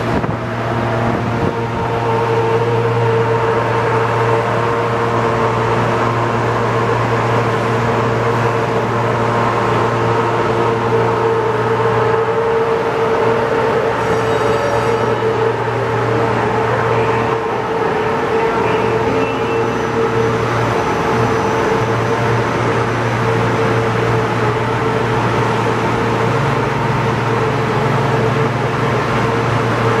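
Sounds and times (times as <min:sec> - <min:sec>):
boring mill mechanical hum: 0:00.0 - 0:30.0.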